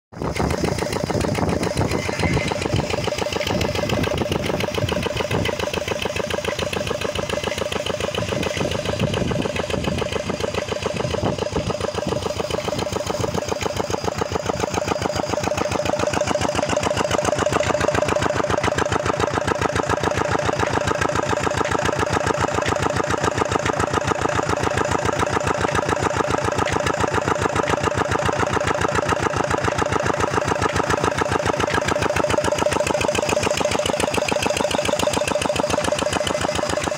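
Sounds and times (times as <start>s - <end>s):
engine running steadily: 0.1s - 36.9s.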